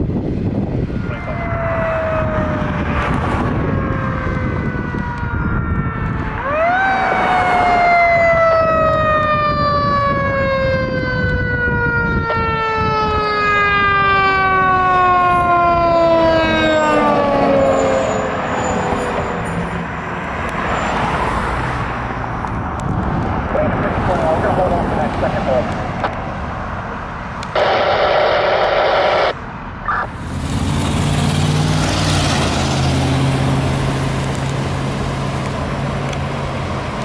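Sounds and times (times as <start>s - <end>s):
fire truck siren: 0.0s - 30.3s
truck engine rumble: 0.0s - 37.0s.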